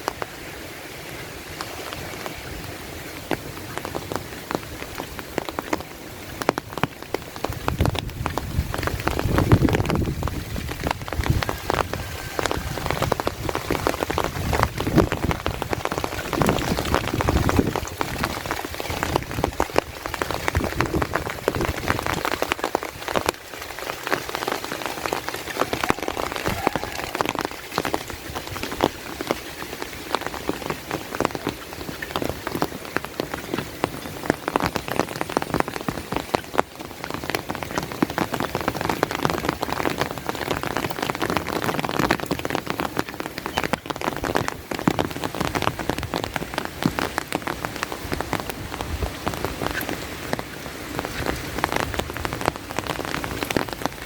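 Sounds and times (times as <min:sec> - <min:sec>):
heavy rain patter: 0:00.0 - 0:54.0.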